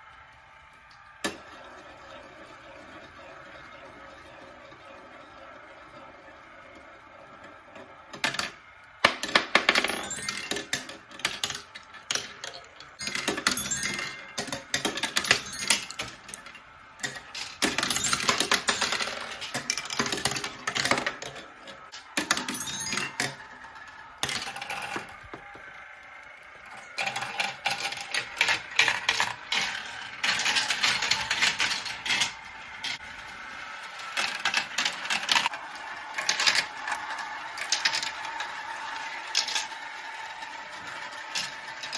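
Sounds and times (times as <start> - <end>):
marbles rolling and clacking: 0.9 - 41.9.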